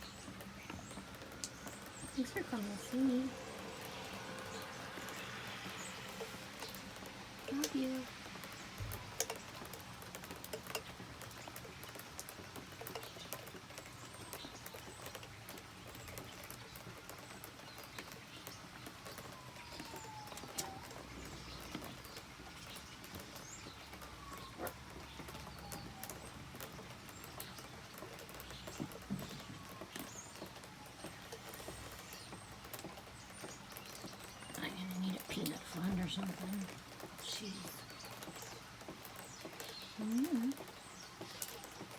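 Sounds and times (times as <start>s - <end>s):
drips pattering and ticking: 0.0s - 41.9s
steady rain: 0.0s - 41.9s.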